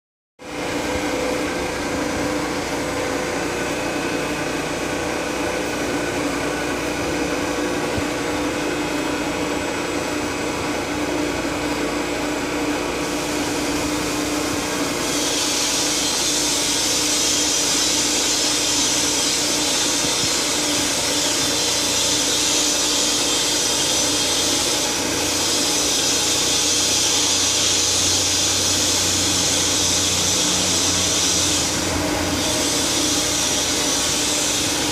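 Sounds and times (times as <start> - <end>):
machine hum: 0.4 - 34.9.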